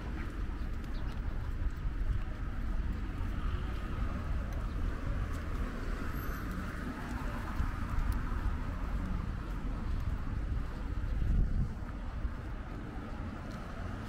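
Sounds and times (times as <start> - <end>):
car traffic hum: 0.0 - 14.0.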